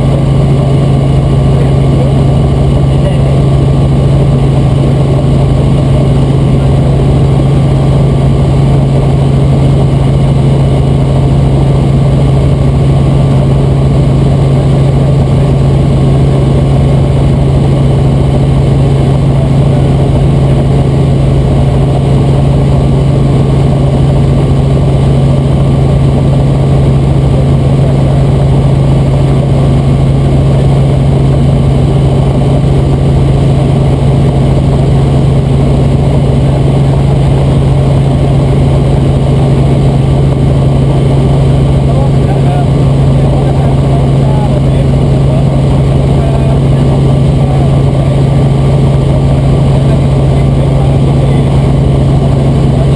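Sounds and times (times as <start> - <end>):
helicopter engine and rotors droning: 0.0 - 52.9.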